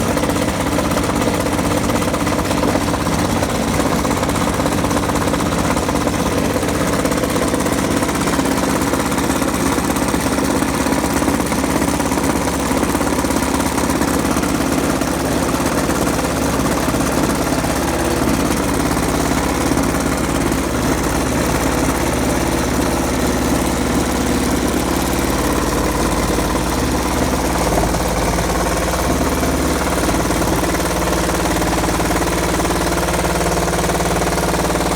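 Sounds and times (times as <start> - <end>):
washing machine rattling and hammering: 0.0 - 34.9.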